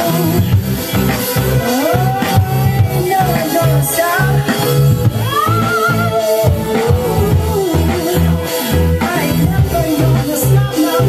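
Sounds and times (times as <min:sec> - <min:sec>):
song over heavy bass beat: 0:00.0 - 0:11.0.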